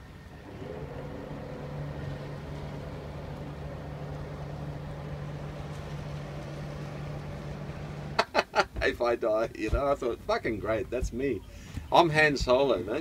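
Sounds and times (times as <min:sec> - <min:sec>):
boat engine starting and running: 0:00.0 - 0:13.0.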